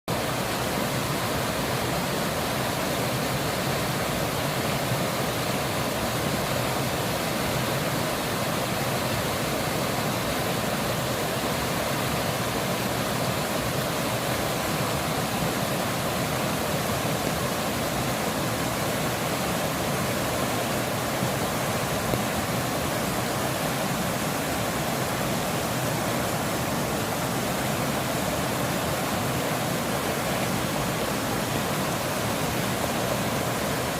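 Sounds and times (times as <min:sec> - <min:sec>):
stream rushing over rocks: 0:00.1 - 0:33.9.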